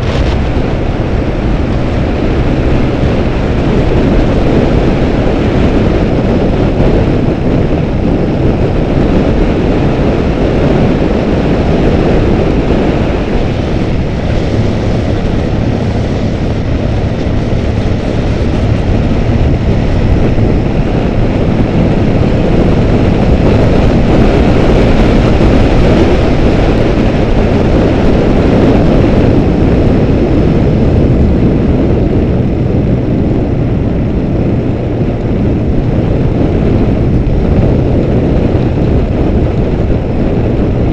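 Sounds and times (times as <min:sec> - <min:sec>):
motorcycle engine running loudly: 0:00.0 - 0:40.9.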